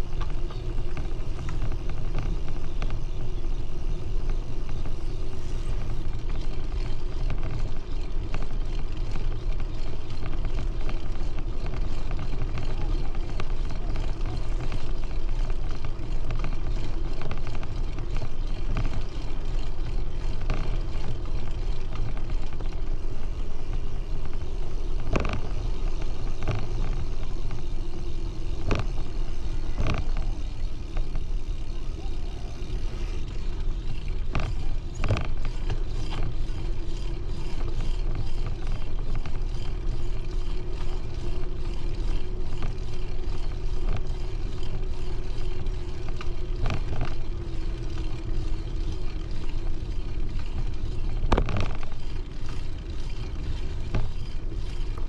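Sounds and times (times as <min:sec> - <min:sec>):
bicycle tyres rumbling on pavement: 0:00.0 - 0:55.0.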